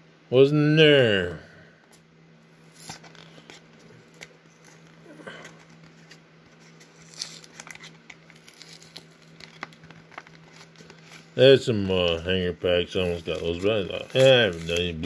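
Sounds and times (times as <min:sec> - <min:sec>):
cards being handled: 0:02.6 - 0:15.0
foil wrapper crinkling: 0:02.6 - 0:15.0.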